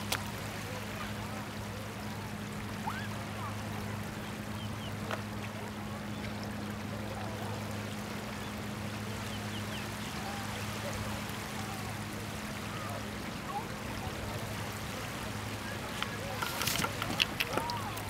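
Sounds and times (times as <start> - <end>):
low steady hum: 0.0 - 18.0
sea waves washing onto beach: 0.0 - 18.0.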